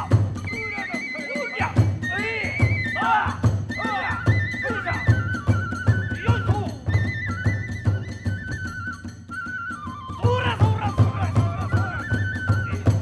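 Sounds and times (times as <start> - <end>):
bamboo flute melody: 0.0 - 13.0
taiko drum beats: 0.0 - 13.0.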